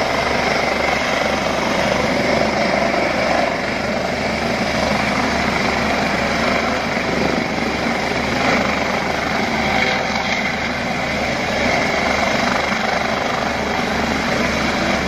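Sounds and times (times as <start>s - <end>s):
helicopter turbine and rotor noise: 0.0s - 15.0s.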